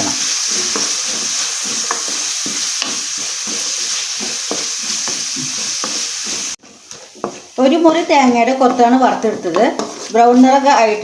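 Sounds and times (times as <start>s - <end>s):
coconut pieces sizzling in oil: 0.0s - 11.0s
stirring in a pan: 0.0s - 11.0s.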